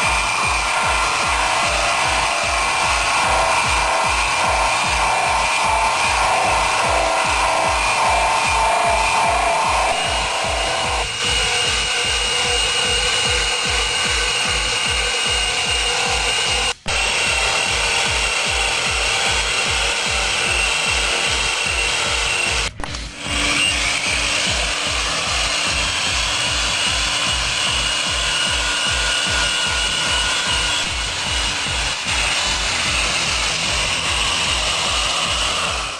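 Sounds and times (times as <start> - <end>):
angle grinder running: 0.0 - 35.9
background music with beat: 0.0 - 35.9.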